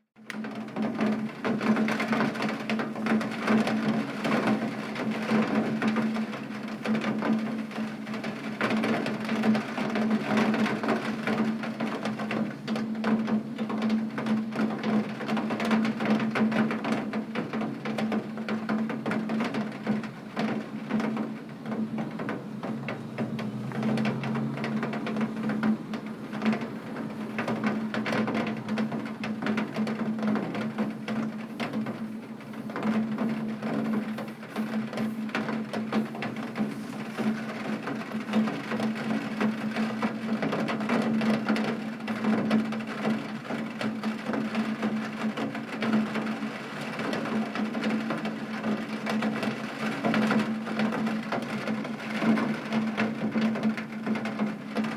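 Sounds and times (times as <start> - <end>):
heavy rain pattering on window: 0.2 - 54.9.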